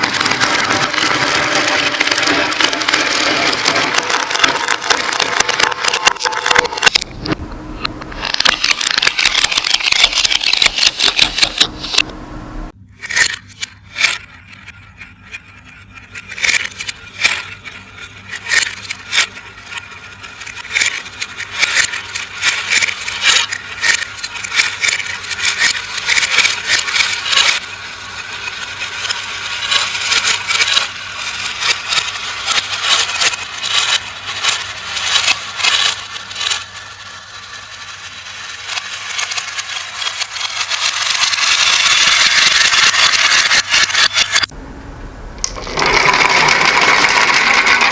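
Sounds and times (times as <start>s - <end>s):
marbles rolling rush: 0.0s - 12.0s, 16.1s - 44.6s, 45.4s - 47.9s
marbles clicking on track: 0.0s - 12.1s, 15.0s - 44.6s, 45.4s - 47.9s.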